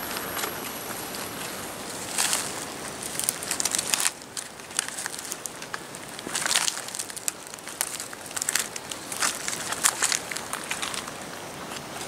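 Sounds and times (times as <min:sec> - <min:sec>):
dry leaves rustling and crackling: 0:00.0 - 0:12.0.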